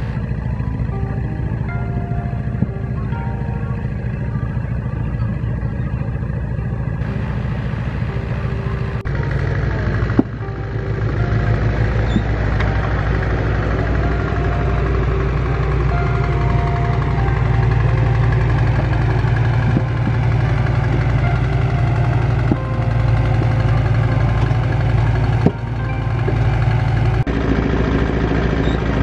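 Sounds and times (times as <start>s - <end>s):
engine running with low beat: 0.0s - 29.0s.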